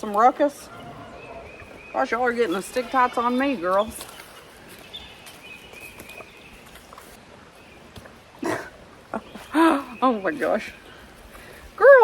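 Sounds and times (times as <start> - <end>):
farm animals feeding: 0.0 - 12.0.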